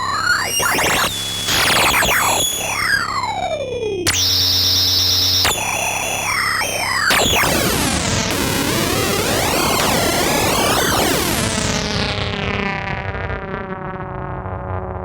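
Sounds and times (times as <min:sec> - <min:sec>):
synthesizer sweep over hiss: 0:00.0 - 0:12.2
synthesizer buzzing tone: 0:00.0 - 0:12.4
synthesizer falling pitch glide: 0:00.0 - 0:12.8.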